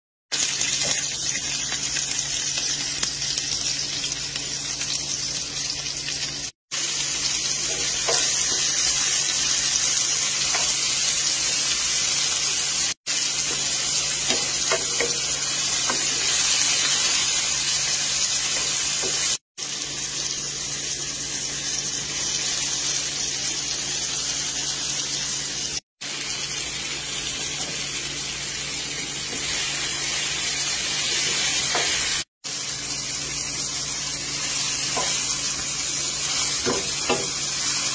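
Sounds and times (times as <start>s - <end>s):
food sizzling in hot oil: 0.3s - 37.9s.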